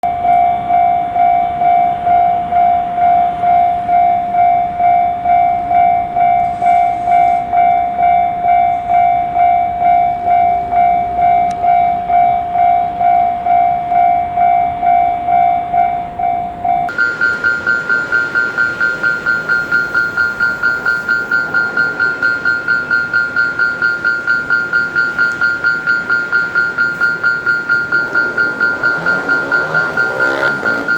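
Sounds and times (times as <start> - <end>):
level crossing alarm dinging: 0.0 - 30.9.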